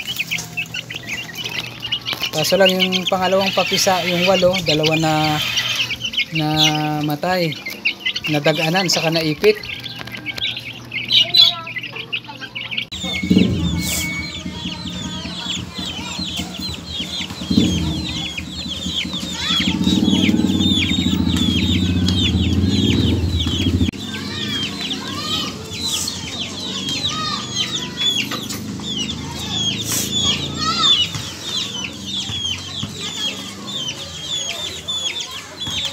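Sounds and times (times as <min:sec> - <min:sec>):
chicks peeping: 0:00.0 - 0:35.9.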